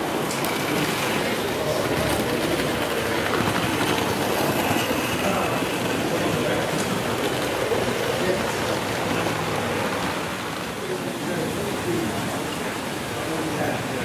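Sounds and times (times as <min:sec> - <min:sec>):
crowd chatter: 0:00.0 - 0:14.0
model trains rattling on track: 0:00.0 - 0:14.0.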